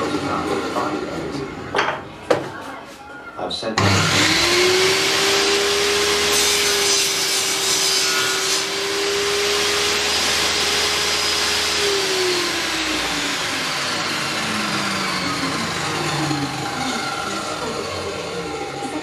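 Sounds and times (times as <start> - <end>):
table saw whining: 0.0 - 2.5, 3.6 - 19.0.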